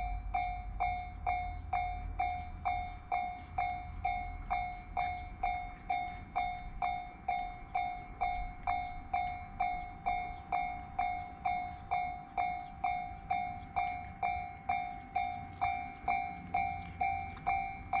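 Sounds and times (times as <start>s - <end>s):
railroad crossing bell ringing: 0.0s - 18.0s.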